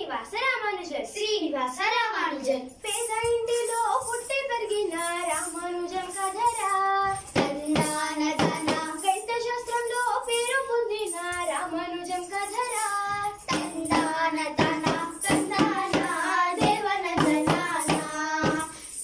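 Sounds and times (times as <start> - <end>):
girl singing: 0.0 - 19.0.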